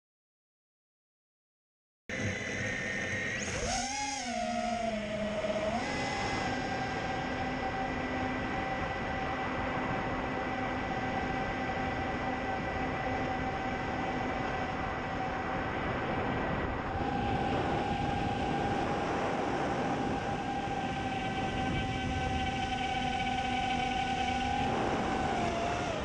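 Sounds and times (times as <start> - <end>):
drone motors whining: 2.1 - 26.0
wind rushing over microphone: 3.6 - 26.0.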